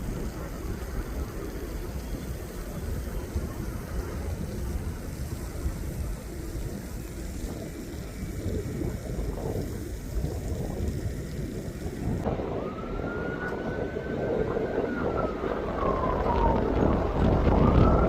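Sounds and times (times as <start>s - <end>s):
jet aircraft rumble: 0.0s - 18.0s
wind on microphone: 0.0s - 18.0s.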